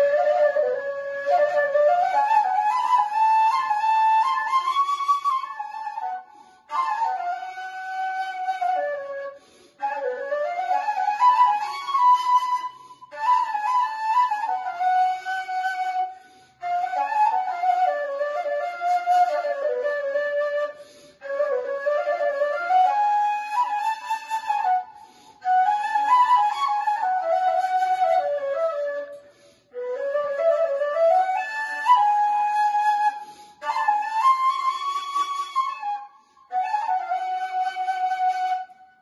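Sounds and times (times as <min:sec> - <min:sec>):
reed flute melody: 0:00.0 - 0:39.0.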